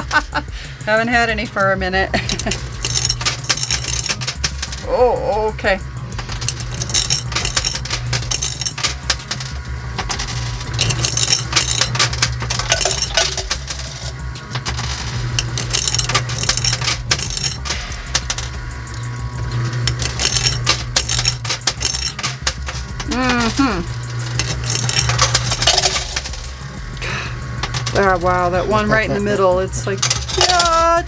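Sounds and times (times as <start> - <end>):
steady low hum: 0.0 - 31.0
coins clinking and clattering: 2.1 - 31.0.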